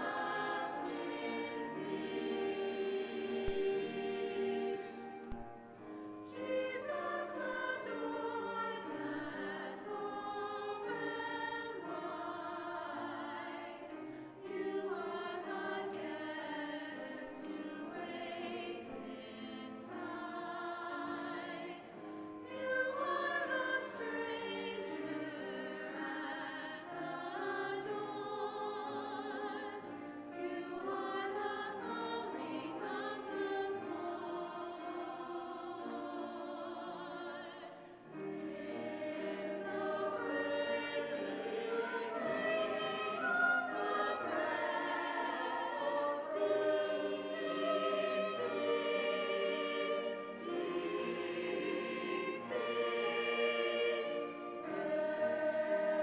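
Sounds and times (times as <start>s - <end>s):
church choir singing a hymn: 0.0s - 56.0s
steady accompaniment: 0.0s - 56.0s.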